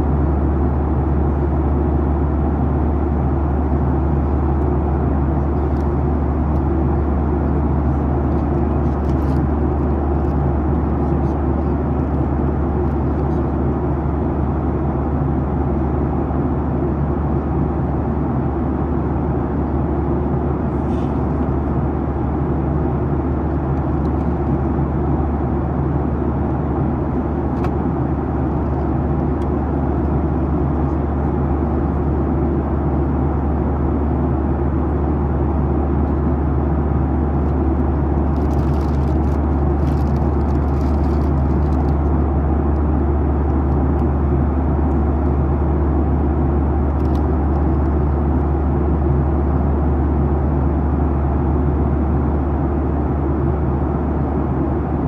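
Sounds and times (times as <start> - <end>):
jet engine drone in cabin: 0.0 - 55.0.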